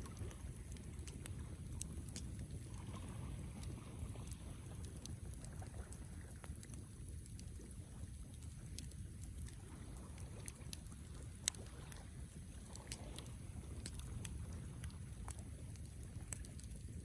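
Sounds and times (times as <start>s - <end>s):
campfire crackling and popping: 0.0s - 17.0s
fire low rumble: 0.0s - 17.0s.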